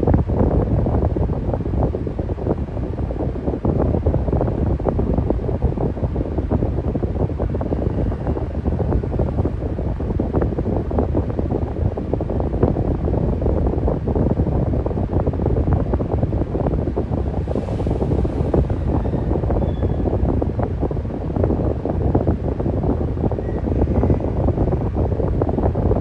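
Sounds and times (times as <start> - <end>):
electric fan blowing air: 0.0 - 26.0.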